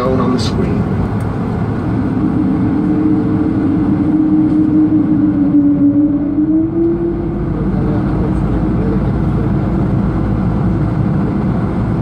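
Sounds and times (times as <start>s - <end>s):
airliner cabin engine rumble: 0.0s - 12.0s
engine humming tone: 0.0s - 12.0s.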